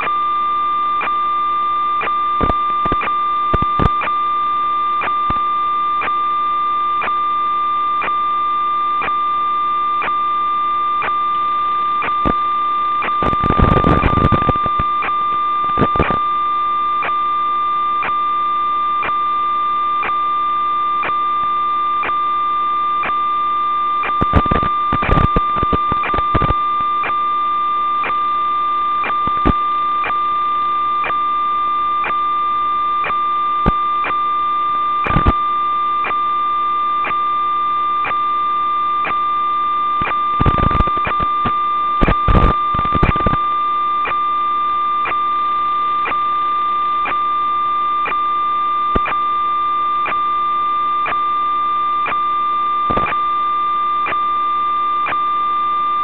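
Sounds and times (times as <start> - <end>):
crackling static bursts: 0.0 - 56.0
electronic whine and hiss: 0.0 - 56.0.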